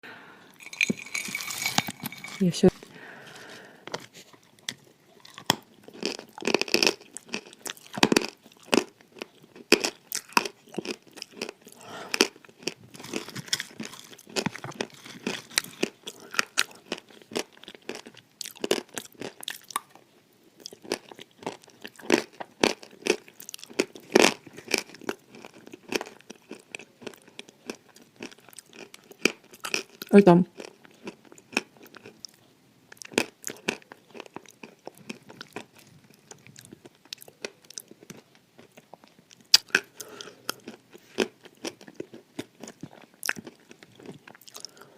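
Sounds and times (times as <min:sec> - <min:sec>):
person chewing crunchy clay: 0:00.5 - 0:20.0, 0:20.6 - 0:44.9.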